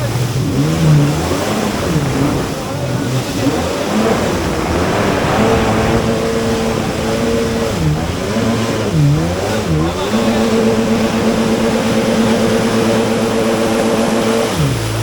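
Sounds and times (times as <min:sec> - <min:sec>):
watercraft engine at high revs: 0:00.0 - 0:15.0.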